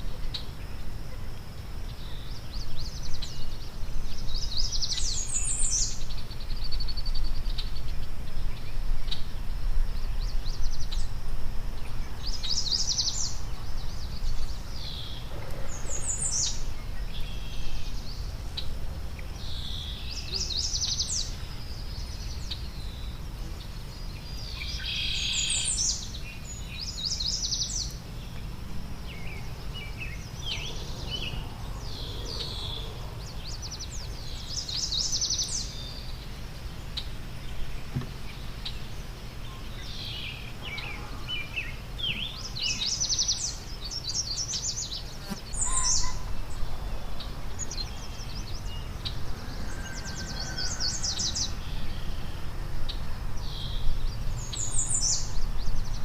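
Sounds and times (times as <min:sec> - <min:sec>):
songbirds singing and trilling: 0:00.0 - 0:56.0.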